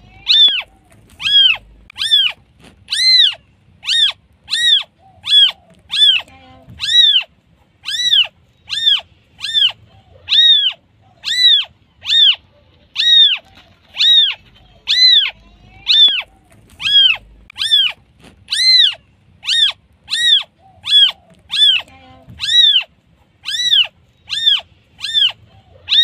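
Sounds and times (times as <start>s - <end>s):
newborn kitten meowing: 0.1s - 26.0s.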